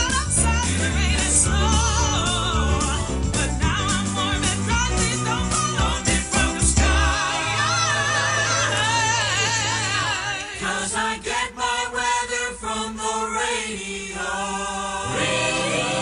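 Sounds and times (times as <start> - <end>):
vocal group singing jingle: 0.0 - 16.0.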